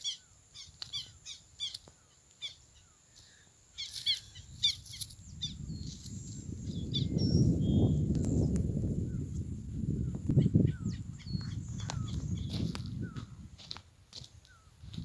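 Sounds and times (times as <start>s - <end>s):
small birds chirping: 0.0s - 13.4s, 14.2s - 15.0s.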